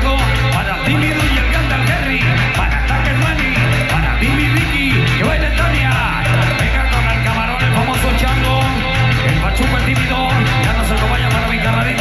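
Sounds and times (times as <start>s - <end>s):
loud dance music with singing: 0.0s - 12.0s
pulsing bass beat: 0.0s - 12.0s.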